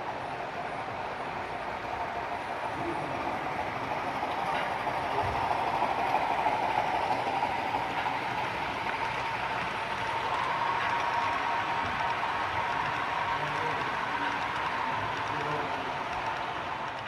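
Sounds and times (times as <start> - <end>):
model train rolling hum: 0.0 - 17.0.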